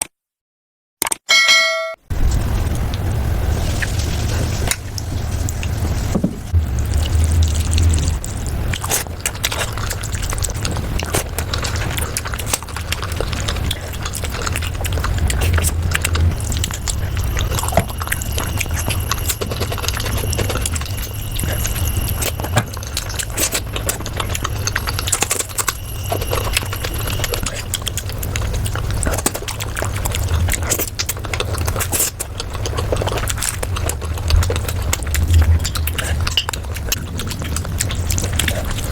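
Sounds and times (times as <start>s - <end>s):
low hum: 1.3s - 38.9s
chewing and mouth noises: 3.8s - 38.9s.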